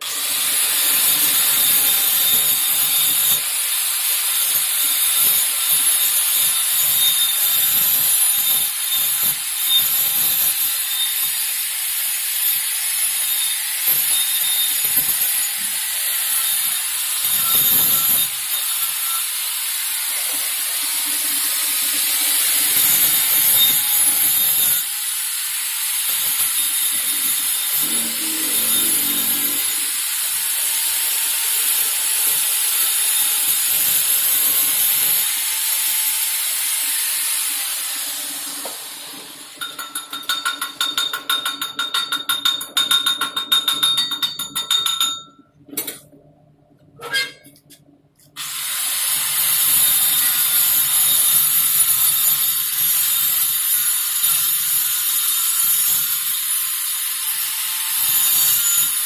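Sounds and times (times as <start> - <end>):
welding arc crackling hiss: 0.1 - 39.7, 48.5 - 59.0.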